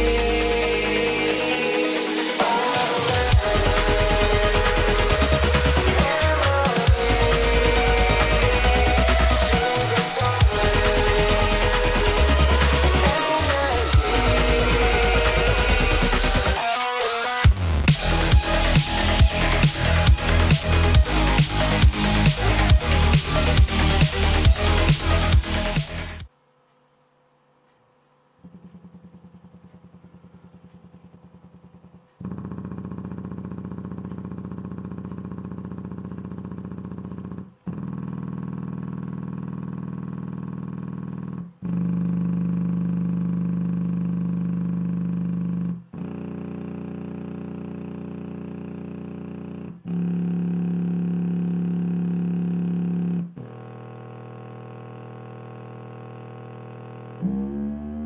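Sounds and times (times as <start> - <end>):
buzzy subwoofer test tones: 0.0 - 16.6, 17.2 - 58.0.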